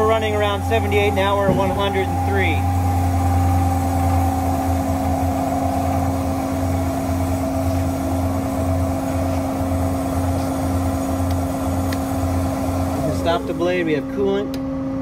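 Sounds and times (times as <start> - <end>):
band saw humming: 0.0 - 14.1.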